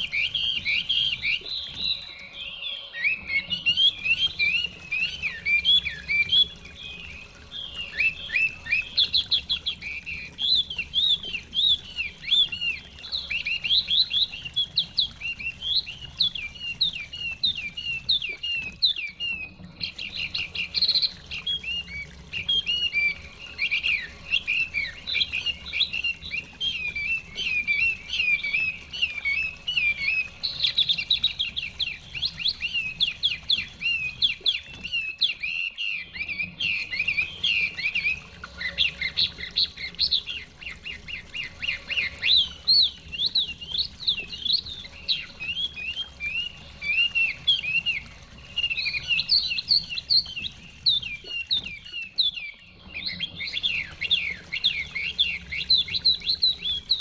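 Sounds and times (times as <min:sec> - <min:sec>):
bird singing whistled phrases: 0:00.0 - 0:57.0.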